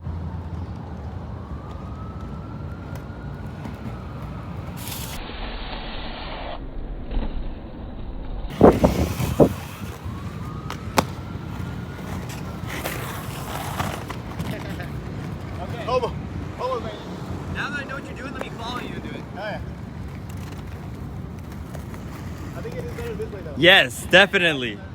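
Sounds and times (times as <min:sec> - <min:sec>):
skate wheels rolling on pavement: 0:00.0 - 0:05.2, 0:08.5 - 0:24.8.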